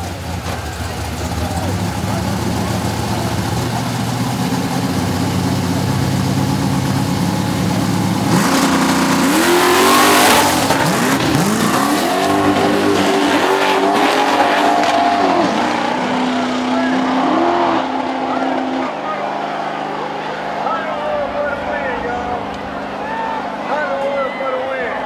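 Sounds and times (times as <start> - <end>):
car engines idling: 0.0 - 25.0
engines revving hard: 0.0 - 25.0.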